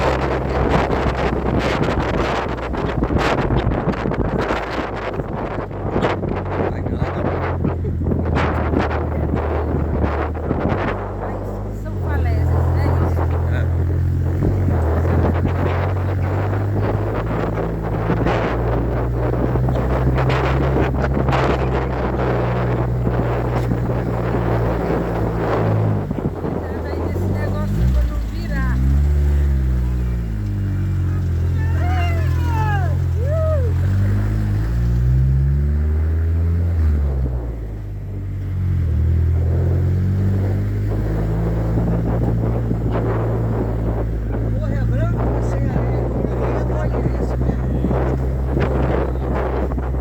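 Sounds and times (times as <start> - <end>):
low engine hum: 0.0 - 50.0
wind buffeting microphone: 0.0 - 50.0.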